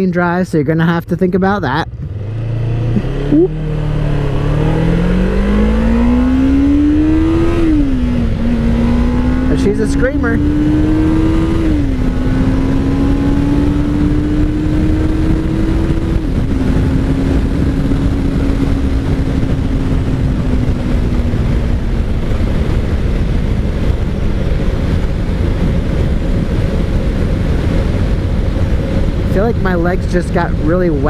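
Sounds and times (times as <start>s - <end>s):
wind noise on microphone: 1.9s - 31.0s.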